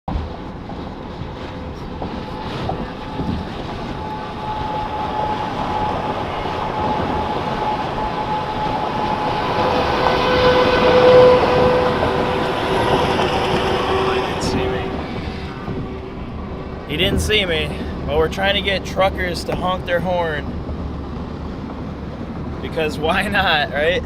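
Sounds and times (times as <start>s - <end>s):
faint steady tones: 0.1s - 24.0s
road and wind rush: 0.1s - 24.0s.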